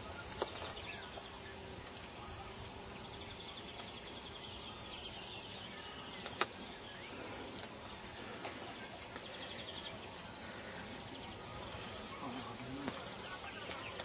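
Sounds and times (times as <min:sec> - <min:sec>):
insects trilling: 0:00.0 - 0:14.0
low outdoor hiss: 0:00.0 - 0:14.0
small birds chirping: 0:00.0 - 0:14.0.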